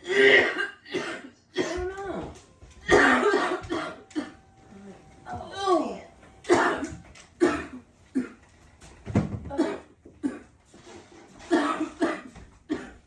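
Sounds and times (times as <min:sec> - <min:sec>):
woman coughing hard: 0:00.0 - 0:08.4, 0:09.5 - 0:10.6, 0:11.4 - 0:13.0.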